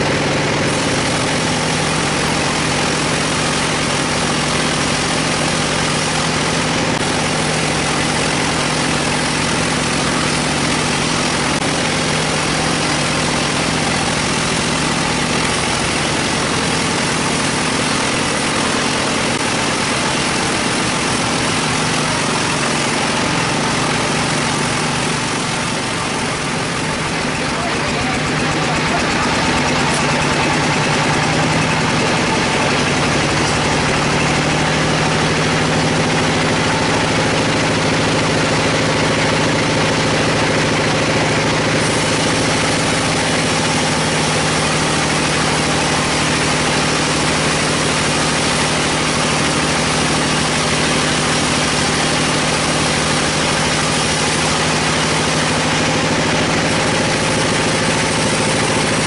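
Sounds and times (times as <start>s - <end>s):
sawmill machine drone: 0.0s - 59.0s.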